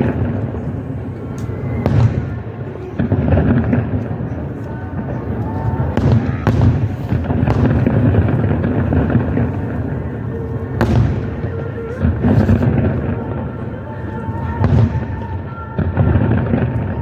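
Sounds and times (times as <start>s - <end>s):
fireworks cracking and booming: 0.0s - 17.0s.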